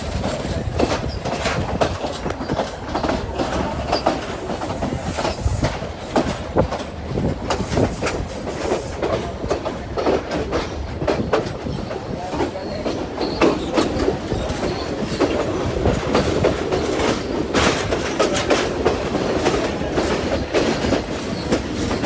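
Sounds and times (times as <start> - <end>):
train rumble: 0.0 - 22.0
wheels clattering over rail joints: 0.0 - 22.0.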